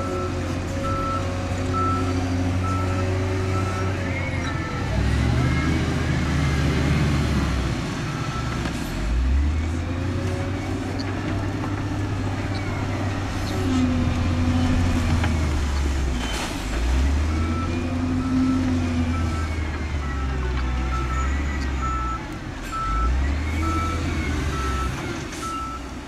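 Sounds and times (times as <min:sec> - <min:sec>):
heavy diesel machines revving: 0:00.0 - 0:26.0.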